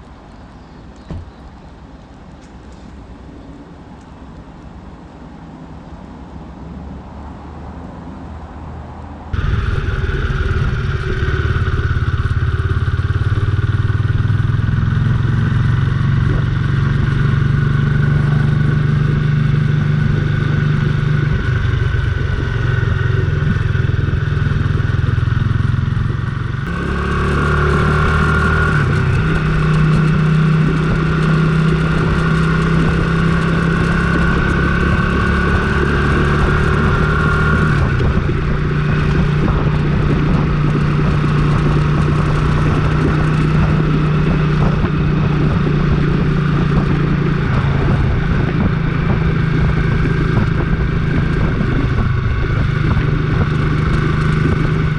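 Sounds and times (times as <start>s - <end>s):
motorcycle engine running: 9.3s - 54.9s.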